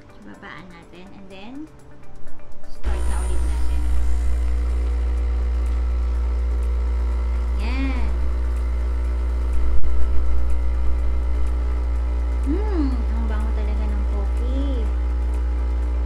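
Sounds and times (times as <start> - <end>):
coffee machine pump humming: 2.8 - 16.0.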